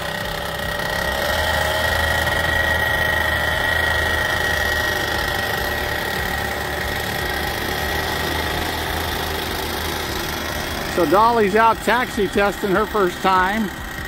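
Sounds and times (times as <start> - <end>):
high whine: 0.0 - 14.0
paramotor engine and propeller: 0.0 - 14.0.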